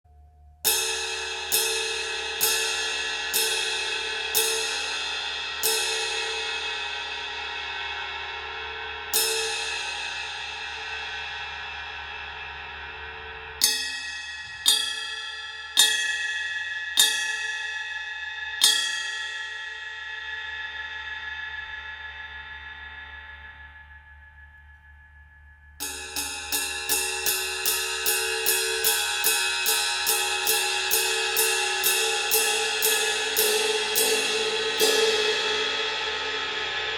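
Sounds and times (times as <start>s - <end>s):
ride cymbal struck with stick: 0.1s - 21.9s, 25.8s - 36.9s.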